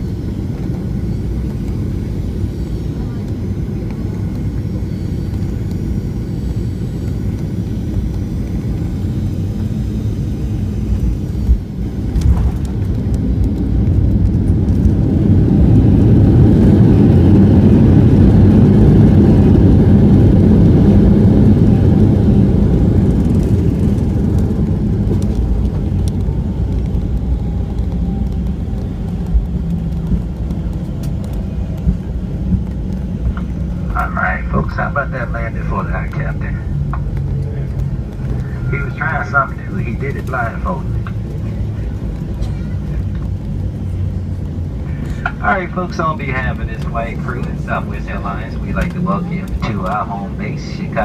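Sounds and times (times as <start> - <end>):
low rumble of jet engines and airflow: 0.0 - 51.0.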